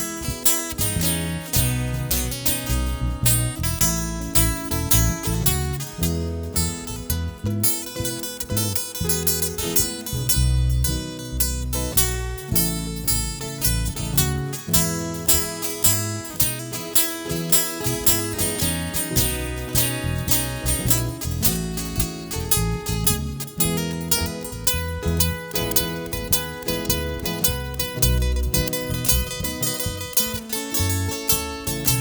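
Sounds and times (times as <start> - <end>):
acoustic guitar strumming: 0.0 - 32.0
bass line: 0.0 - 32.0.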